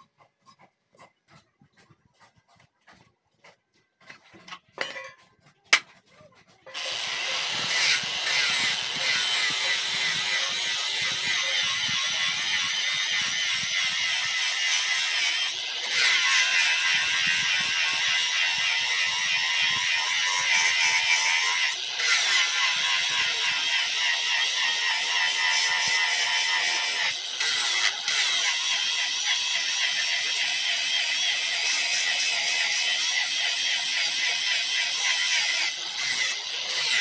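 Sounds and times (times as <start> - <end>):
angle grinder grinding steel: 4.0 - 37.0.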